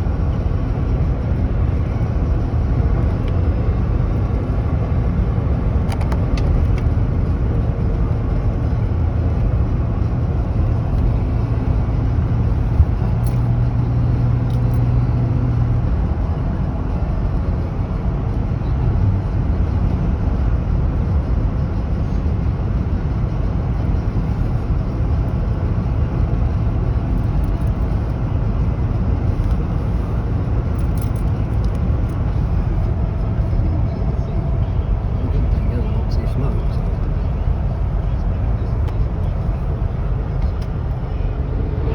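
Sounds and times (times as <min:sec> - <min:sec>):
car engine and road noise: 0:00.0 - 0:41.9
low steady hum: 0:00.0 - 0:41.9.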